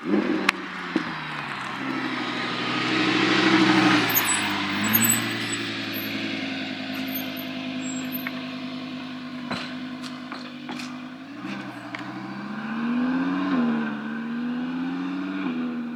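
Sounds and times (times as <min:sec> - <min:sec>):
sports car engine running: 0:00.0 - 0:14.6.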